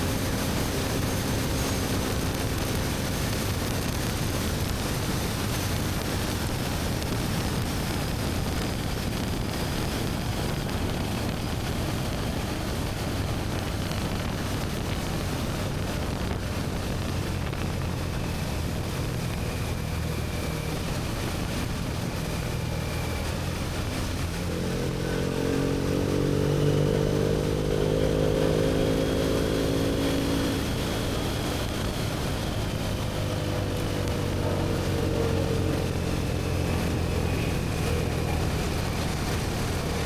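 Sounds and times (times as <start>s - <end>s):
motorcycle engine riding: 0.0s - 40.0s
road and wind noise: 0.0s - 40.0s.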